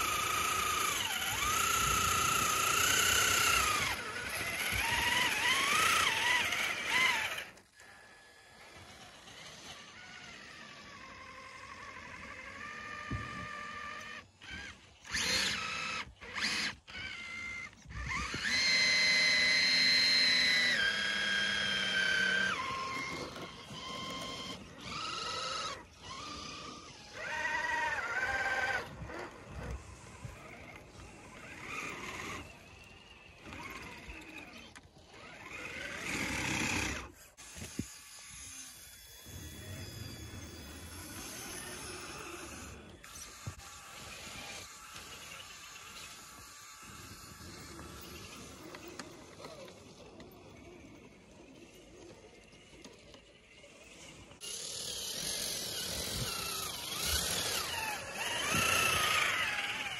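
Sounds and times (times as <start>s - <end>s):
rc truck electric motors whining: 0.0s - 59.9s.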